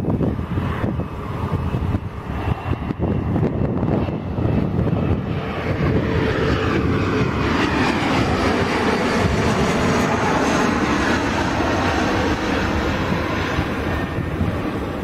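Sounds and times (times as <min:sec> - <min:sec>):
jet passing overhead: 0:00.0 - 0:15.0.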